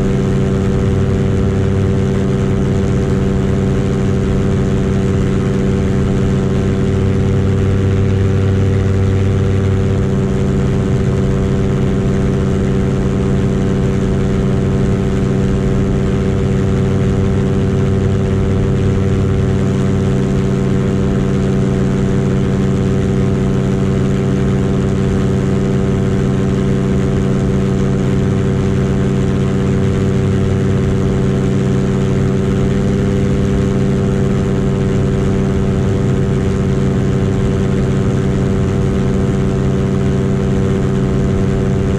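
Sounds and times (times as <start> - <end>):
paramotor engine droning: 0.0 - 41.9.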